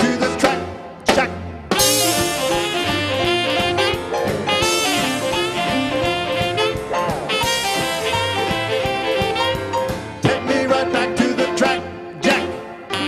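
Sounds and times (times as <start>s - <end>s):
western swing band playing: 0.0s - 13.0s
saxophone lead: 1.7s - 13.0s.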